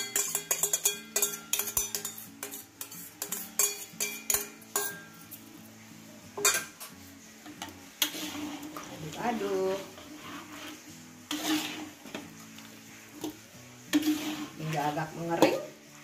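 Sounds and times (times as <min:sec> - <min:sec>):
metal spatula scraping a wok: 0:00.0 - 0:05.5, 0:06.4 - 0:15.8
faint background music: 0:00.0 - 0:16.0.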